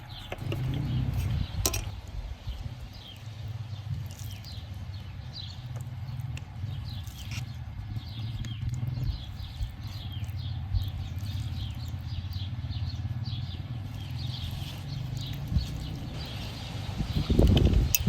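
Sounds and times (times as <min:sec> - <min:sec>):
bird chirping: 0:00.0 - 0:18.0
steady low rumble: 0:00.0 - 0:18.0.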